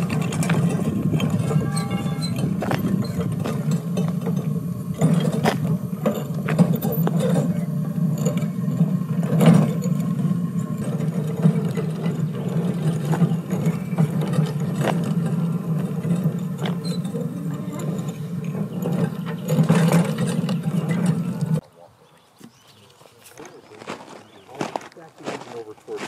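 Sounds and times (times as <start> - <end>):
crack-sealing machine running: 0.0 - 21.6.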